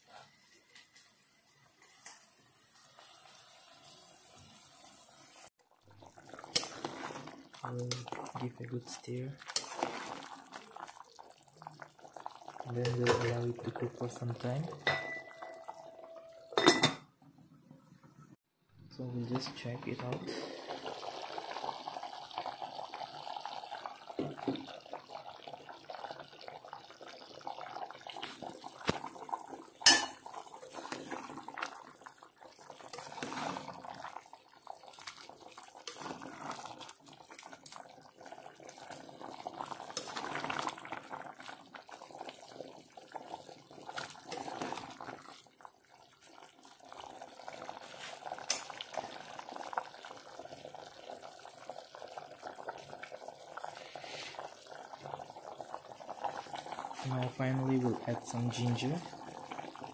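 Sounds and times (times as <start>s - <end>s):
thick gravy bubbling: 5.4s - 14.8s, 19.0s - 59.9s.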